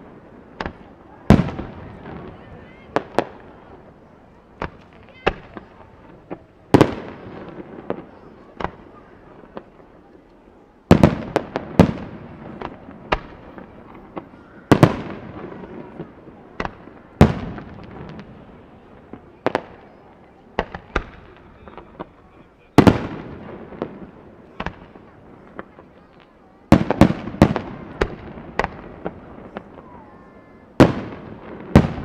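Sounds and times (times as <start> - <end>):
fireworks bursting with bangs: 0.0 - 32.0.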